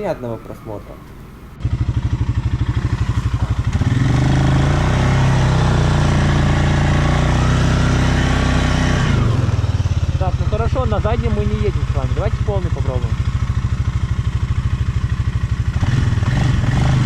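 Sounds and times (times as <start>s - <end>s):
quad bike engine idling and revving: 1.3s - 17.0s.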